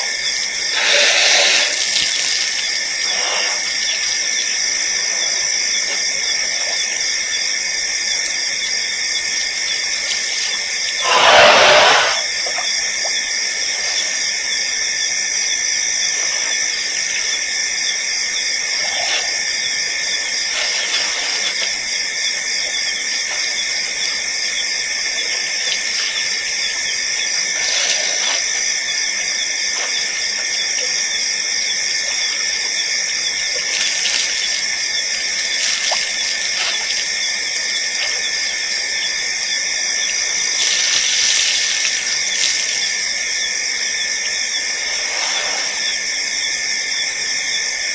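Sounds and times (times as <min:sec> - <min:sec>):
insects chorus at night: 0:00.0 - 0:47.9.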